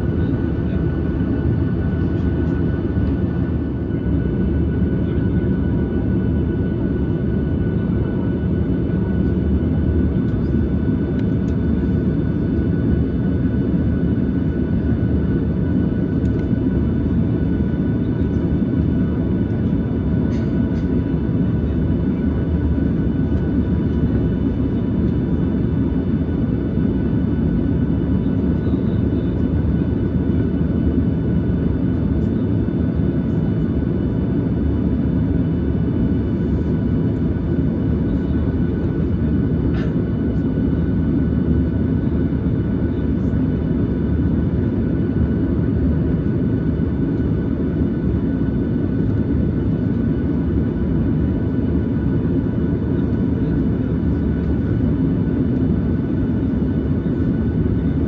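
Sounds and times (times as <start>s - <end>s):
aircraft cabin rumble and hiss: 0.0s - 58.0s.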